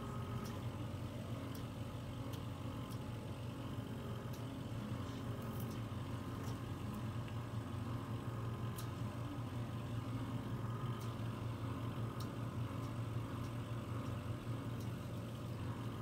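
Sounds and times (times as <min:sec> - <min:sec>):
vacuum pump humming: 0:00.0 - 0:16.0.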